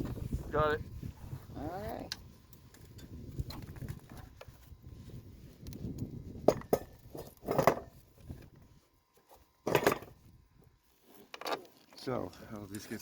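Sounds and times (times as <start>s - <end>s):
rustling and scraping: 0.0s - 13.0s.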